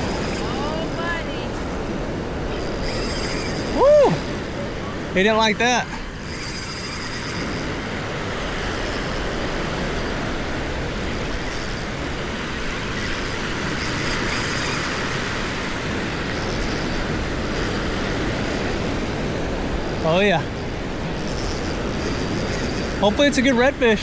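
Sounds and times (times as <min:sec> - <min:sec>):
breaking surf: 0:00.0 - 0:24.0
wind: 0:00.0 - 0:24.0.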